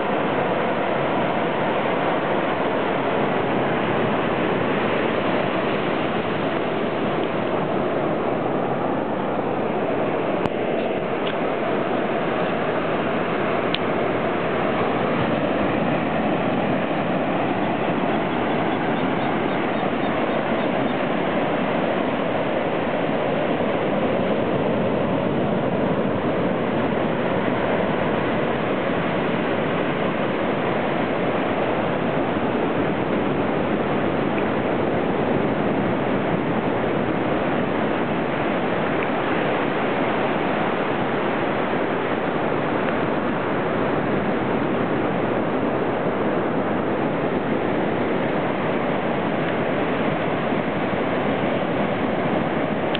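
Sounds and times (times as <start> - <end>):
surf washing on beach: 0.0 - 52.9.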